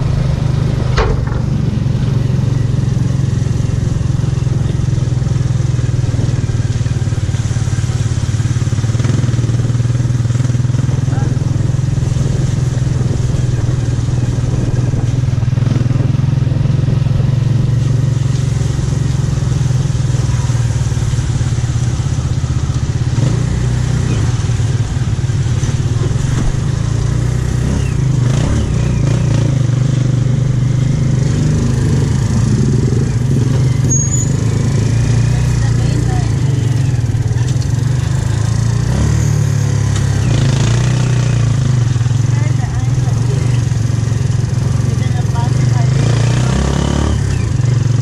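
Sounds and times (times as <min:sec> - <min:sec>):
motorcycle engine running: 0:00.0 - 0:48.0
road noise: 0:00.0 - 0:48.0.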